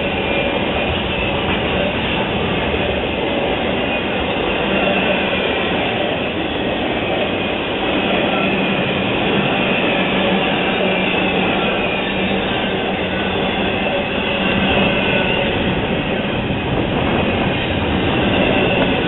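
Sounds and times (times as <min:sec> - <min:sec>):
freight train wheels rumbling on rail: 0:00.0 - 0:19.0.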